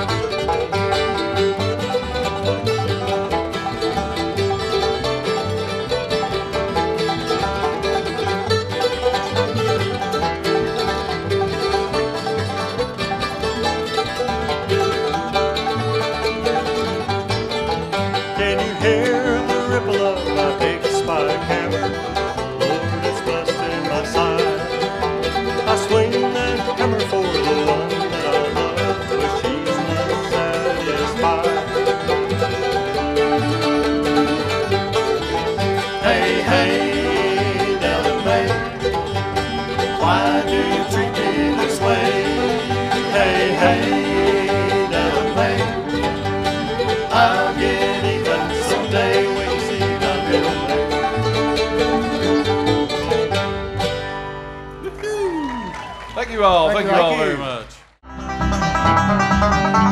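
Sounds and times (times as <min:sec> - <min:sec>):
banjo: 0:00.0 - 0:55.0, 0:58.0 - 0:59.9
mandolin: 0:00.0 - 0:55.6, 0:58.0 - 0:59.9
upright bass: 0:00.0 - 0:55.6, 0:56.4 - 0:59.9
acoustic guitar: 0:00.0 - 0:55.7, 0:56.8 - 0:59.9
fiddle: 0:00.0 - 0:56.3, 0:58.1 - 0:59.9.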